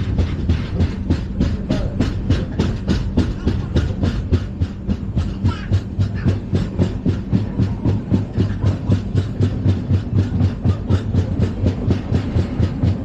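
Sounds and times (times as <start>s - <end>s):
low train rumble: 0.0s - 13.0s
train wheels clattering over rail joints: 0.0s - 13.0s.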